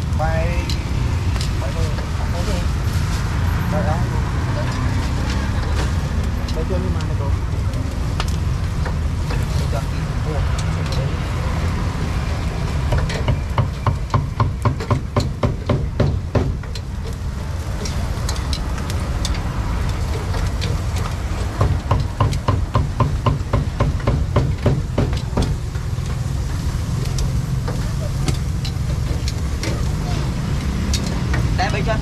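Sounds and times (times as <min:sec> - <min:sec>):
low rumble of street traffic: 0:00.0 - 0:32.0.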